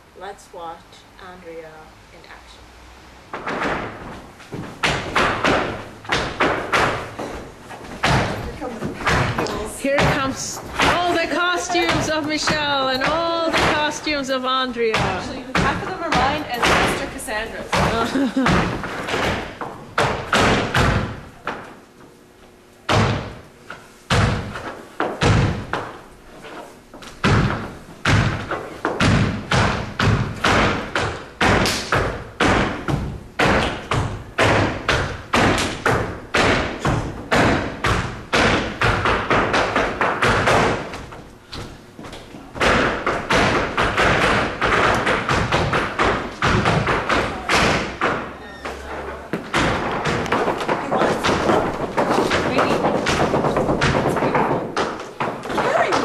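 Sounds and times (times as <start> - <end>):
shoes stamping on wooden floor: 3.3 - 21.7, 26.9 - 56.0.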